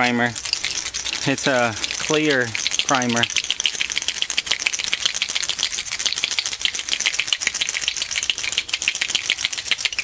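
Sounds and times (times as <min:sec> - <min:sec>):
ball rattling in shaken bottle: 0:00.0 - 0:10.0.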